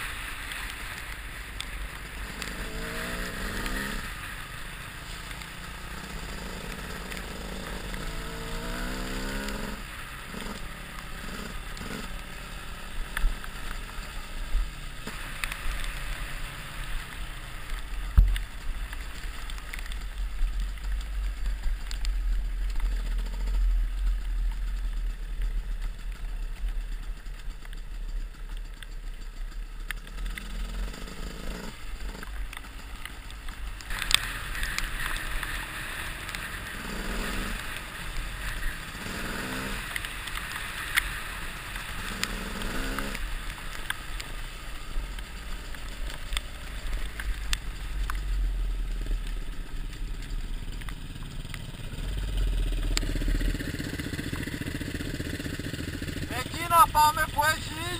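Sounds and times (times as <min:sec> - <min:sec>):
dirt bike engine running: 0:00.0 - 0:57.9.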